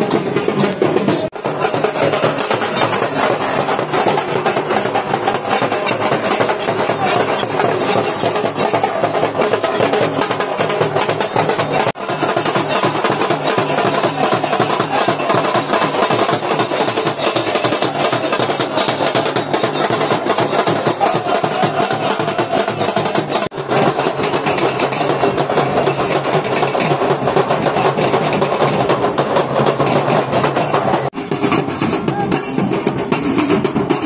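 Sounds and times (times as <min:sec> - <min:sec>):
procession drums: 0:00.0 - 0:34.0.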